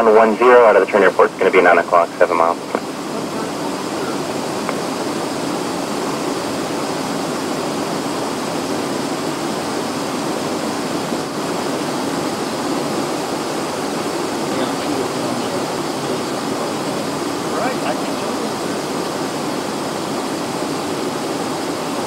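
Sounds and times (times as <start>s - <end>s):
jet cockpit rushing noise: 0.0s - 22.0s.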